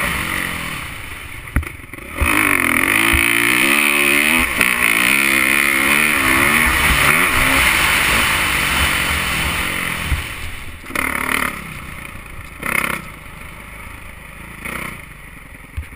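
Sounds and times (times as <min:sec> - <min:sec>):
wind and track noise: 0:00.0 - 0:14.8
dirt bike engine revving: 0:00.0 - 0:15.6.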